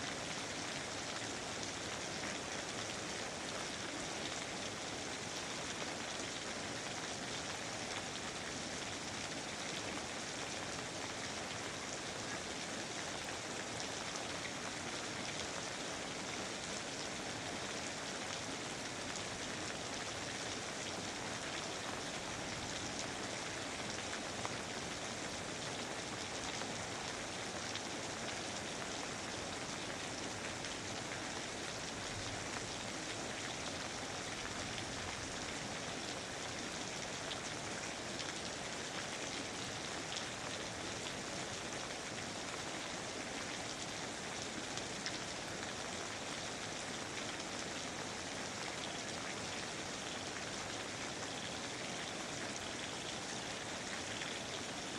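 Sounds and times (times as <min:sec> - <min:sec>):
rain on foliage and ground: 0:00.0 - 0:54.9.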